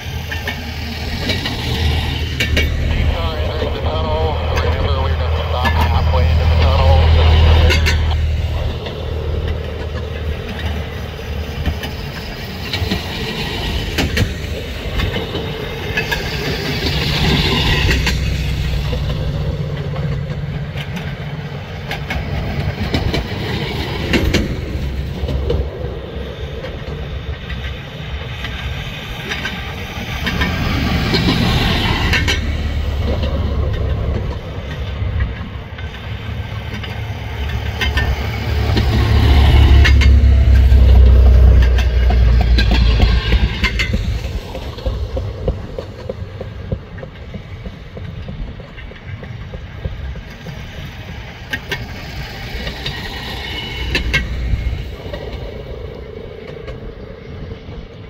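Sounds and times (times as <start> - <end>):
steel wheels clicking over track: 0.0 - 57.0.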